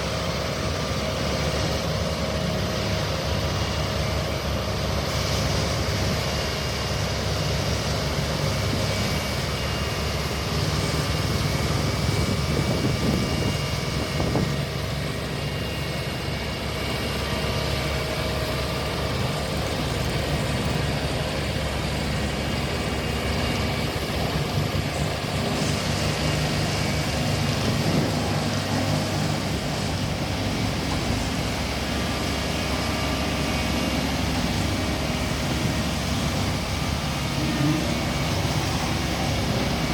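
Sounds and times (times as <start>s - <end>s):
road roller engine drone: 0.0s - 39.9s.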